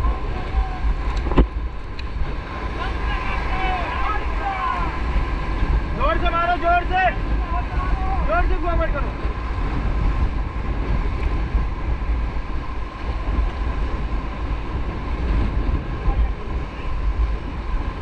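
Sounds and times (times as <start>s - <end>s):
heavy low rumble: 0.0s - 18.0s
river rapids roaring: 0.0s - 18.0s
wind buffeting microphone: 0.0s - 18.0s.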